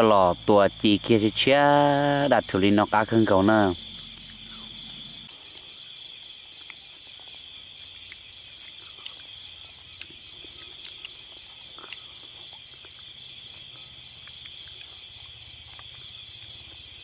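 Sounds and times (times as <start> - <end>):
crickets trilling: 0.0 - 17.0
sharp high cricket chirps: 0.0 - 17.0.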